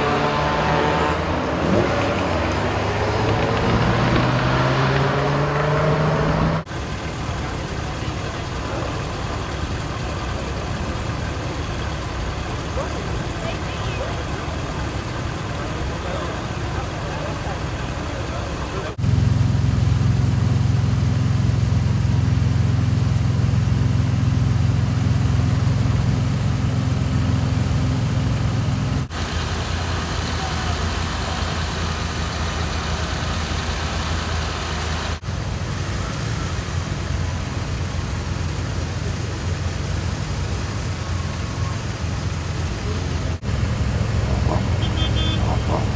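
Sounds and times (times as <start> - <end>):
car engines idling: 0.0 - 45.9.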